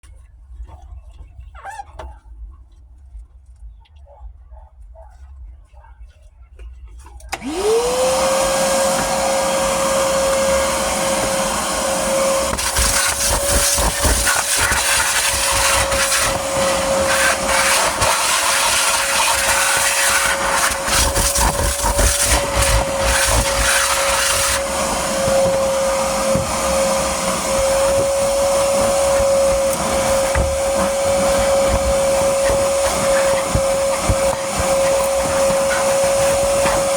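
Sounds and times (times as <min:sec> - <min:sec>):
vacuum cleaner running: 0:07.3 - 0:36.9.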